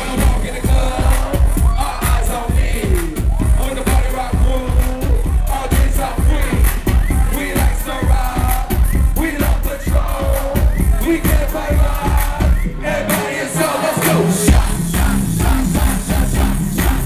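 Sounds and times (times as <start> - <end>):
crowd shouting along: 0.0 - 16.6
live concert music with vocals: 0.0 - 17.0.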